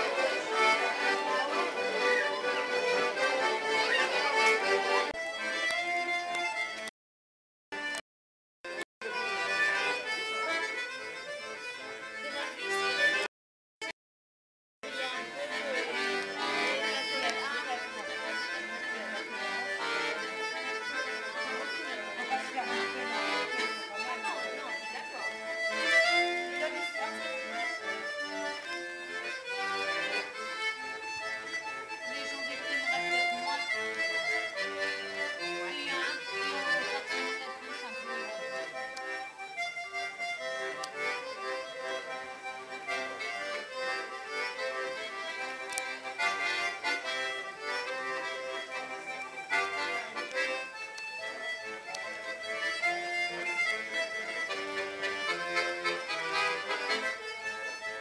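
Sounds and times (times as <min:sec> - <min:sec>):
accordion playing a folk tune: 0:00.0 - 0:06.9, 0:07.7 - 0:08.0, 0:08.7 - 0:13.3, 0:14.8 - 0:58.0.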